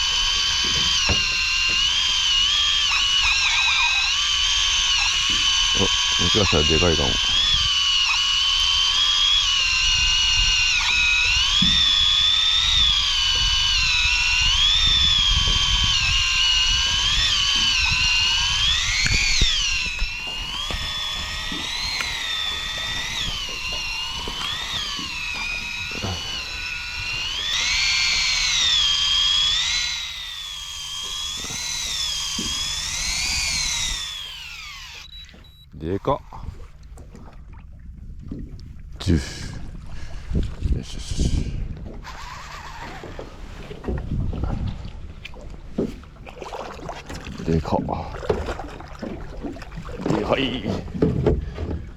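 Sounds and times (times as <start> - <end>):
fishing reel motor whining: 0.0 - 36.8, 39.0 - 44.8, 45.6 - 51.9.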